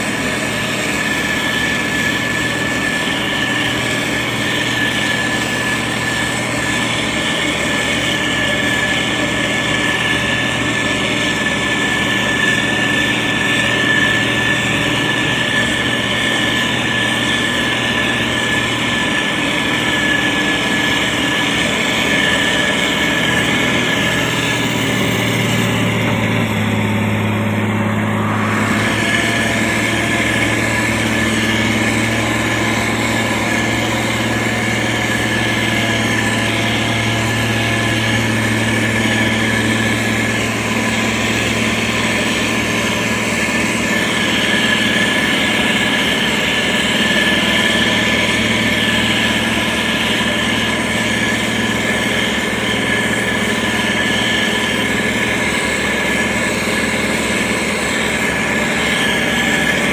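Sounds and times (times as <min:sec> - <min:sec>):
grader diesel engine running: 0:00.0 - 0:59.9
thin high whine: 0:00.0 - 0:59.9.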